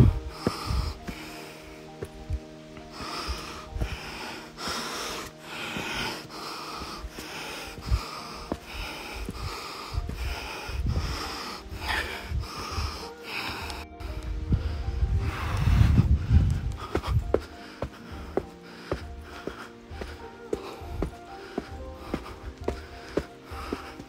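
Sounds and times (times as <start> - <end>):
person breathing hard: 0.0 - 24.0.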